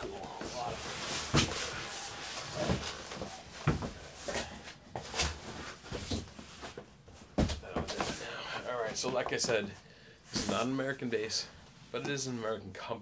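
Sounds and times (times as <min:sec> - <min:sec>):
cardboard boxes scraping and knocking: 0:00.1 - 0:10.9.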